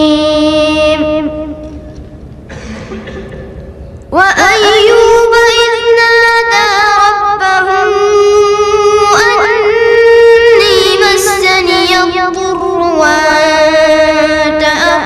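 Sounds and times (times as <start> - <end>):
high voice reciting melodically: 0.0 - 1.7, 4.1 - 15.0.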